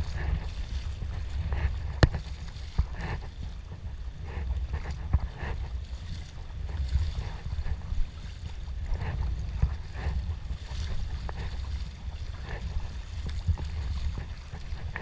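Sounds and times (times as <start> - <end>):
paddle strokes splashing water: 0.0 - 15.0
wind rumbling on microphone: 0.0 - 15.0.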